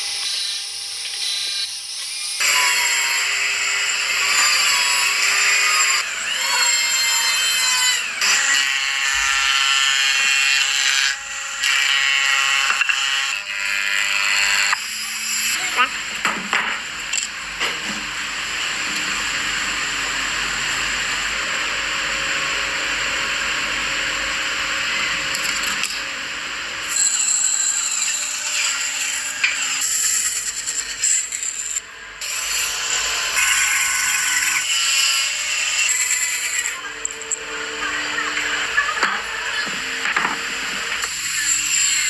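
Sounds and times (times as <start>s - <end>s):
band saw cutting wood: 0.0s - 16.2s, 18.2s - 42.0s
power tools cutting wood: 0.0s - 42.0s.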